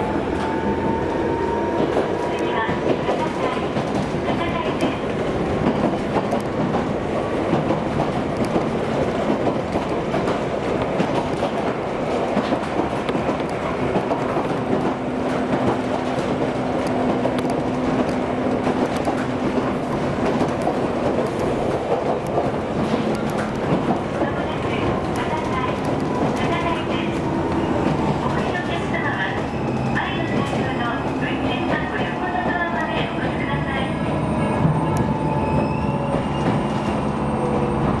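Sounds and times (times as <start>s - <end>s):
wheels rumbling on rails: 0.0s - 38.0s.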